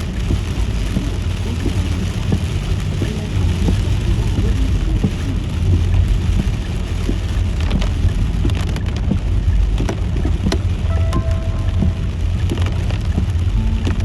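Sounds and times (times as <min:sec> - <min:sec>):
car driving rumble: 0:00.0 - 0:14.0
rain pattering on car: 0:00.0 - 0:14.0.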